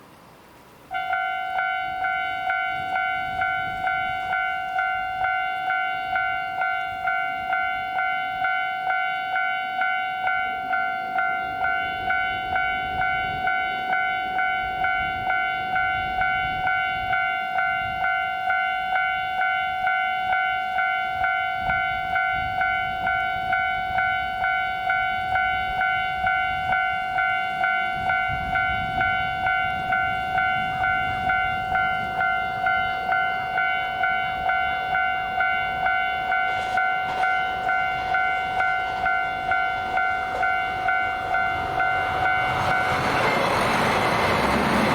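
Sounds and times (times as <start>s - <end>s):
level-crossing electronic bell: 1.0s - 43.8s.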